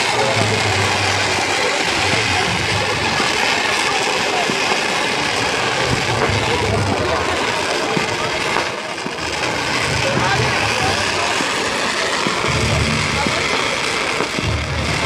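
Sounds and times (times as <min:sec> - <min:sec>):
fireworks hissing and crackling: 0:00.0 - 0:15.0.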